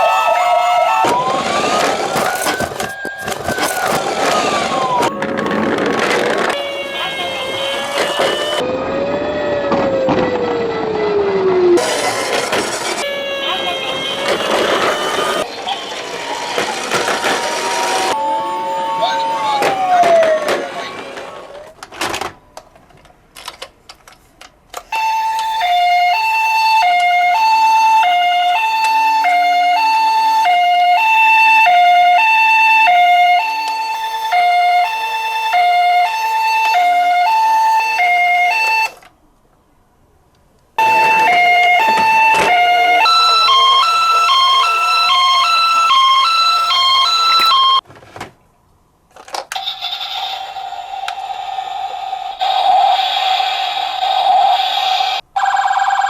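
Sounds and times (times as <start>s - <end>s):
two-tone ambulance siren: 0.0s - 21.7s, 24.8s - 39.1s, 40.8s - 47.8s, 49.6s - 56.0s.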